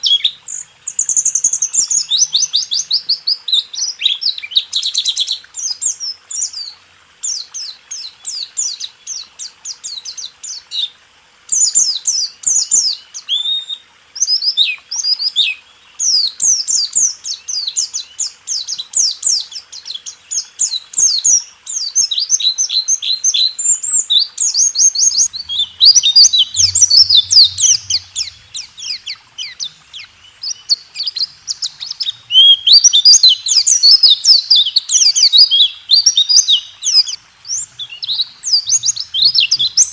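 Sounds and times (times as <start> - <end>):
bird singing rapid chirps and trills: 0.0 - 10.9, 11.5 - 39.9
faint steady hiss: 0.0 - 39.9.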